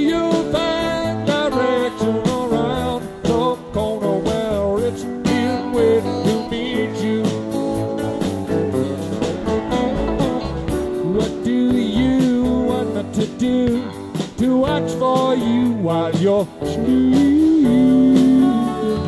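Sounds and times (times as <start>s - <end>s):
bass: 0.0s - 19.0s
melodic guitar lines: 0.0s - 19.0s
steady drum beat: 0.0s - 19.0s.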